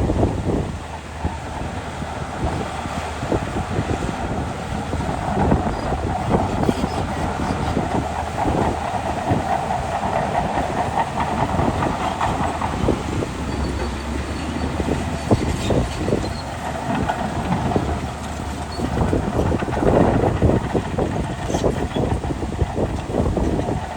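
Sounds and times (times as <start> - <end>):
bulldozer diesel engine under load: 0.0 - 23.9
steel tracks clanking: 0.0 - 23.9.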